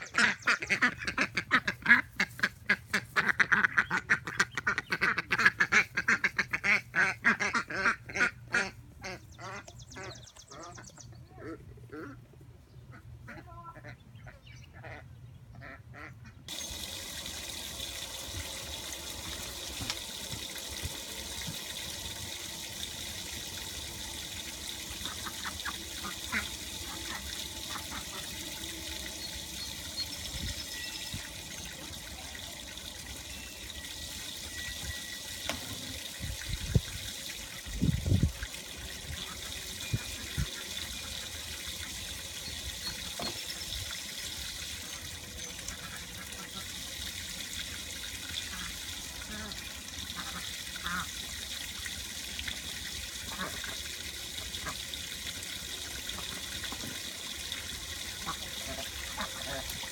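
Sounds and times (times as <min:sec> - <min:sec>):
hose water splashing on wooden deck: 0:00.0 - 0:08.7, 0:16.5 - 0:59.9.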